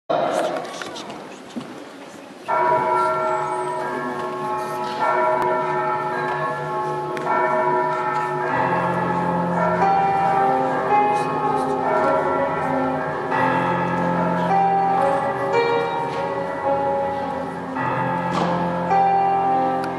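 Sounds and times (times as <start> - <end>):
church bells ringing: 2.5 - 19.9
deep heavy bell: 2.5 - 19.9.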